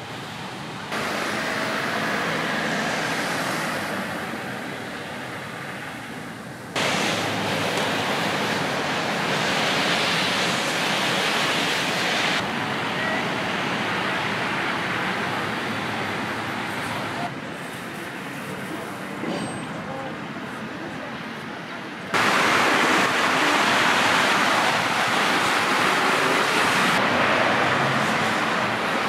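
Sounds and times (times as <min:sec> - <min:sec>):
cars on wet road: 0:00.0 - 0:29.0.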